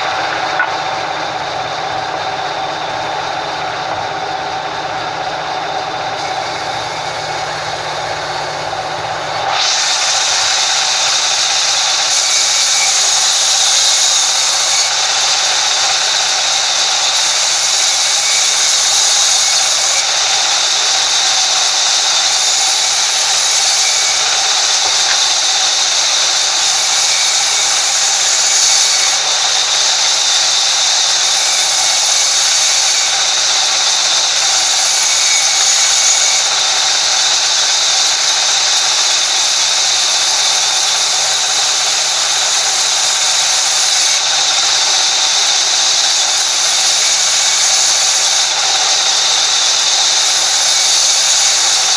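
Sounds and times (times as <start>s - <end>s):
band saw cutting log: 0.0s - 51.9s
band saw running: 0.0s - 51.9s.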